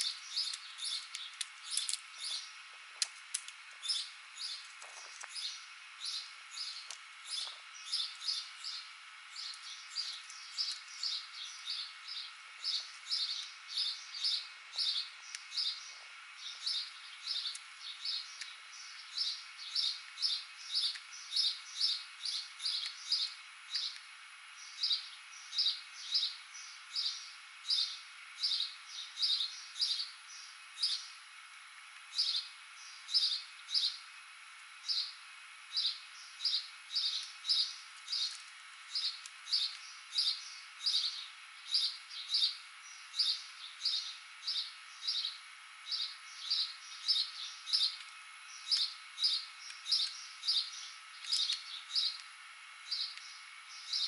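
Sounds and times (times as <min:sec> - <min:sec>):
small songbird chirping: 0:00.0 - 0:02.6, 0:03.8 - 0:31.2, 0:32.1 - 0:34.1, 0:34.8 - 0:54.0.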